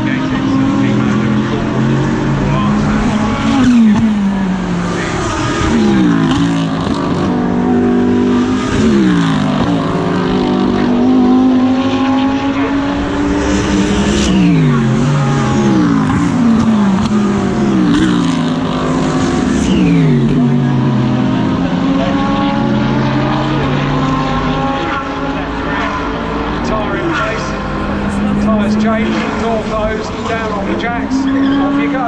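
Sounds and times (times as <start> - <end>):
race car engines at speed: 0.0 - 32.0.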